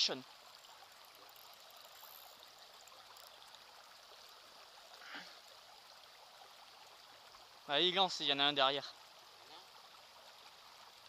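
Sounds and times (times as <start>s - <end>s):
shallow river rippling: 0.0s - 11.0s.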